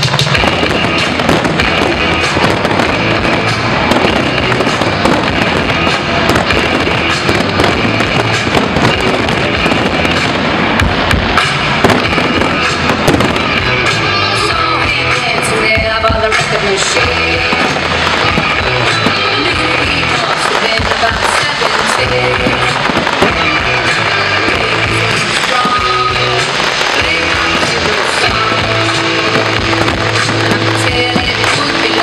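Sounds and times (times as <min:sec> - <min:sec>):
fireworks bursting and crackling: 0:00.0 - 0:32.0
music playing: 0:00.0 - 0:32.0
sharp firework bangs: 0:00.0 - 0:32.0.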